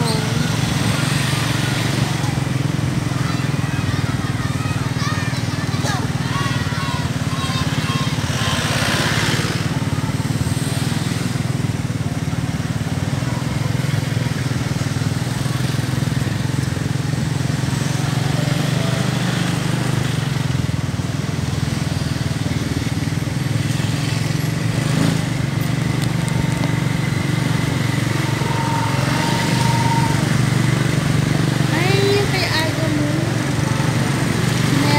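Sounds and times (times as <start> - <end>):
motorcycles passing: 0.0 - 34.9
traffic engine rumble: 0.0 - 34.9.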